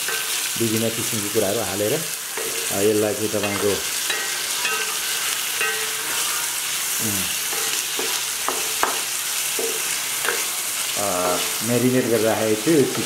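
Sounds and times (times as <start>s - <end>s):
spatula scraping and knocking pan: 0.0s - 0.5s, 2.2s - 12.2s
chicken sizzling in hot oil: 0.0s - 13.0s.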